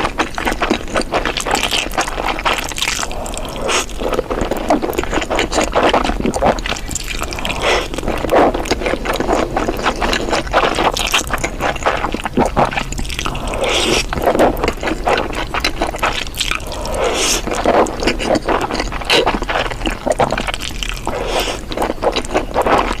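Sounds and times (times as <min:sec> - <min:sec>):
wet chewing and slurping: 0:00.0 - 0:23.0.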